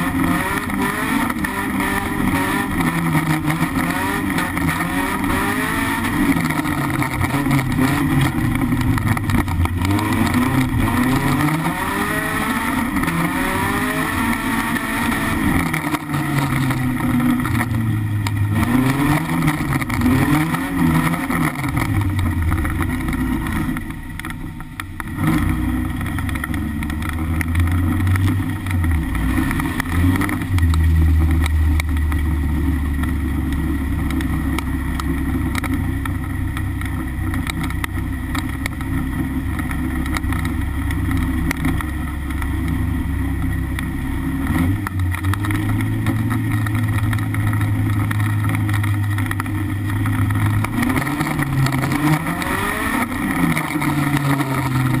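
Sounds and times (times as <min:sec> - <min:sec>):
car engine running under load: 0:00.0 - 0:55.0.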